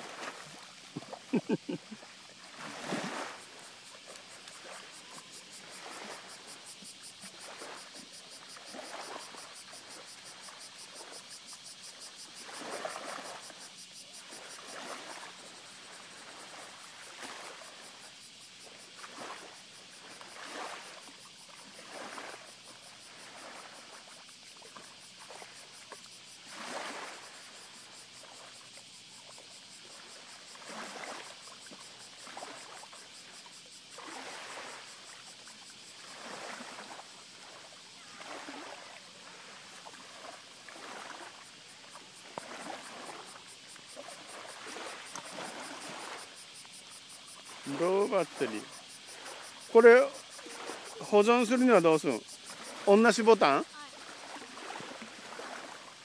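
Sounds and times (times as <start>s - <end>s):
seawater sloshing and splashing: 0.0s - 56.0s.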